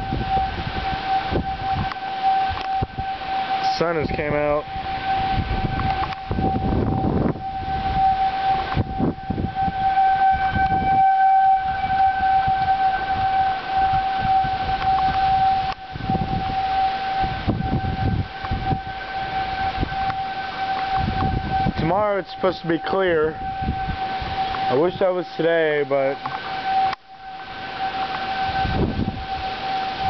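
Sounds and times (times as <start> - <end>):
tornado warning siren: 0.0 - 30.0
wind rumbling on microphone: 0.0 - 30.0.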